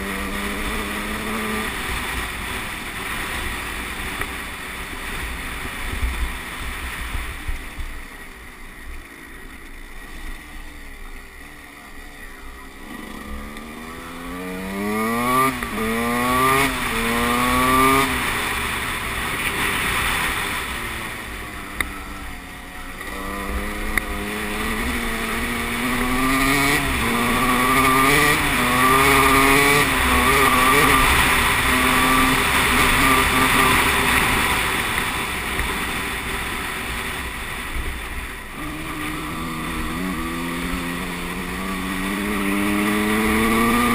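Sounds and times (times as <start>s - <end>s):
motocross bike engine revving: 0.0s - 4.2s, 12.0s - 43.9s.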